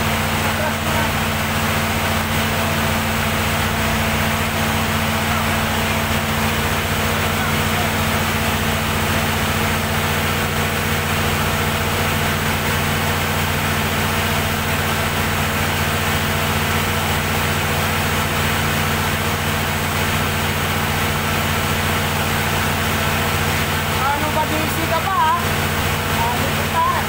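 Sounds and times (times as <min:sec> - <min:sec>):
diesel generator humming: 0:00.0 - 0:27.0.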